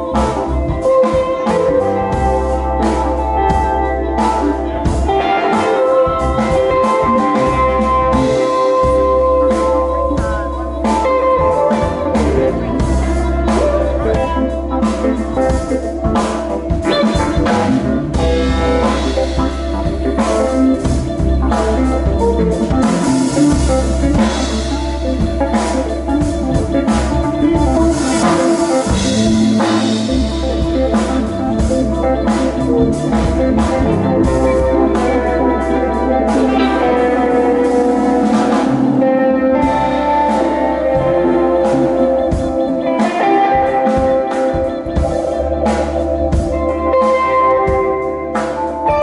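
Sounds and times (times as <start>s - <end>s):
electric guitars: 0.0s - 49.0s.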